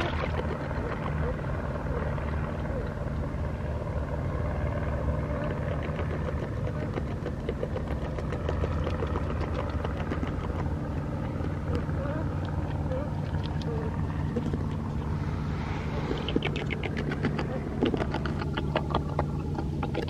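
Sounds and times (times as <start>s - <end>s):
beavers chewing leaves: 0.0s - 20.0s
low rumble: 0.0s - 20.0s.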